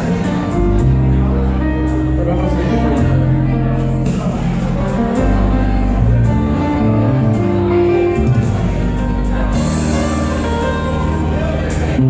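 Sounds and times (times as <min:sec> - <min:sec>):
sustained pitched music notes: 0:00.0 - 0:12.0.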